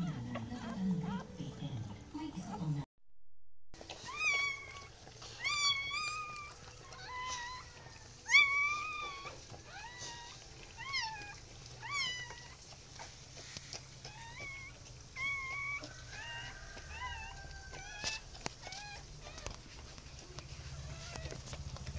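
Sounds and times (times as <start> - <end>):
puppies squealing and whining: 0.0 - 2.1, 3.8 - 21.9.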